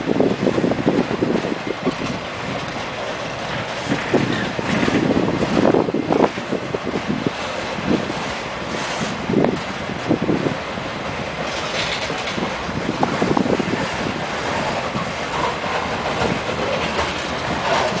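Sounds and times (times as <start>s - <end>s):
train wheels on rails: 0.0s - 18.0s
wheels clanking over rail joints: 0.0s - 18.0s.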